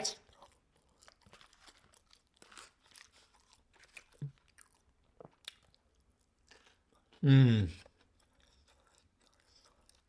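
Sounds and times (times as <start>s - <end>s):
person chewing food: 0.3s - 10.0s.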